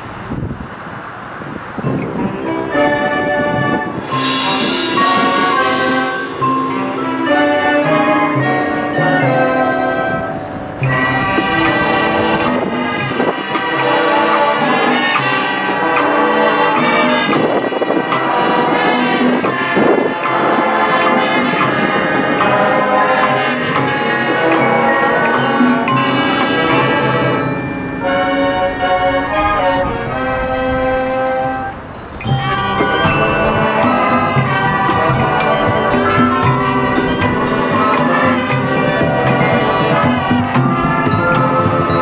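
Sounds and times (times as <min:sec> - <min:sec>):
percussion hits: 0:00.0 - 0:29.4, 0:30.1 - 0:42.0
brass band holding chords: 0:01.9 - 0:42.0.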